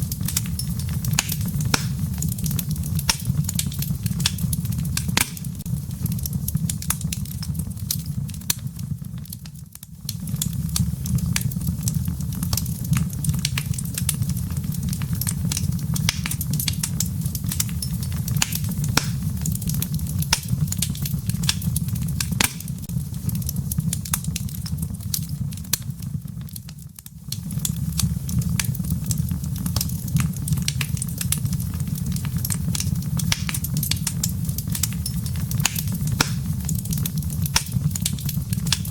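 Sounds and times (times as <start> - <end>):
fire flames rumbling: 0.0 - 38.9
logs crackling and popping: 0.0 - 38.9.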